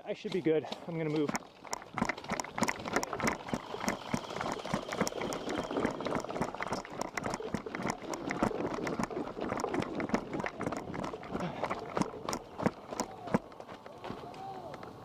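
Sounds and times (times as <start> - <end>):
running footsteps: 0.7 - 15.0.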